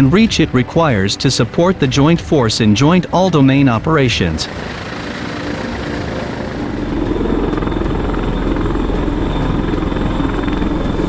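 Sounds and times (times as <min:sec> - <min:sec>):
helicopter rotor and engine: 0:00.0 - 0:11.0.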